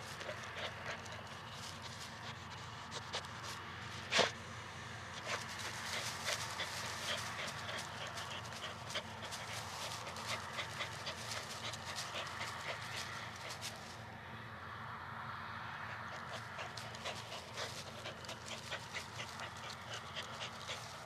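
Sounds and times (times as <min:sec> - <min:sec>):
dog panting: 0:00.0 - 0:04.4, 0:05.1 - 0:14.0, 0:15.9 - 0:21.0.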